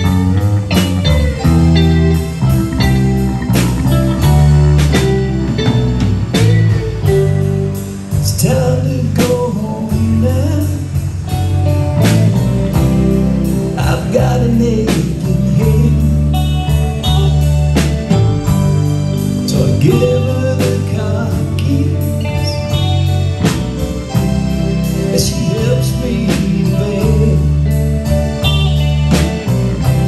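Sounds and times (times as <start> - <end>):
bass guitar: 0.0 - 30.0
electric lead guitar: 0.0 - 30.0
steady drum beat: 0.0 - 30.0
sustained keyboard chords: 0.0 - 30.0.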